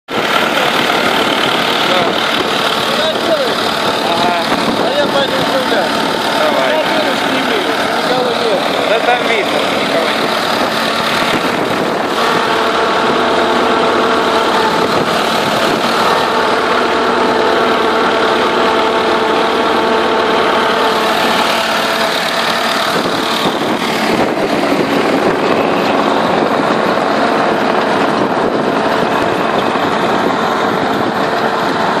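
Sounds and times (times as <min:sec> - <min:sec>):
tractor diesel engine running: 0:00.0 - 0:32.0
rotary tiller in soil: 0:00.1 - 0:32.0.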